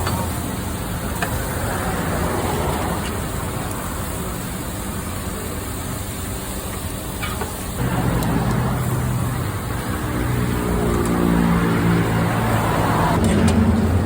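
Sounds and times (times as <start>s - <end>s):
road traffic noise: 0.0s - 14.0s
vehicle engine humming: 0.0s - 14.0s.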